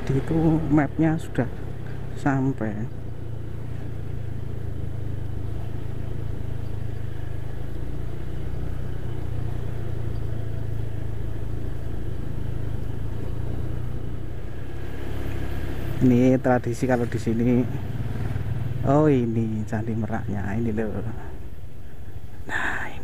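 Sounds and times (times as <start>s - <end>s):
scooter engine low drone: 0.0s - 23.0s.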